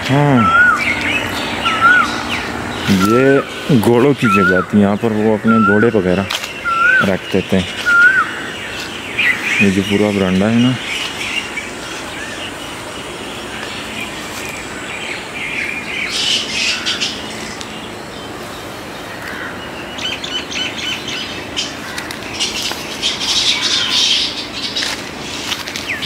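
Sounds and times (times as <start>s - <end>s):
small birds chirping: 0.0s - 26.0s
steady noisy background: 0.0s - 26.0s.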